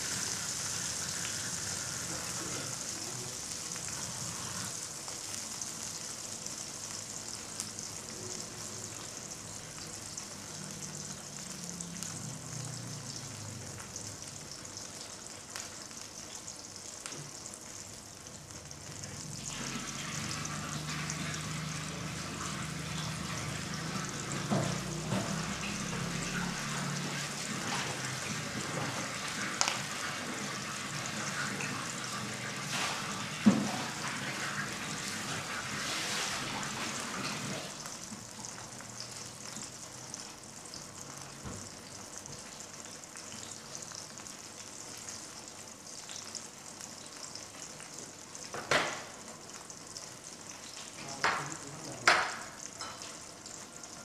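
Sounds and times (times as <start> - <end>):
food sizzling in a wok: 0.0 - 54.0.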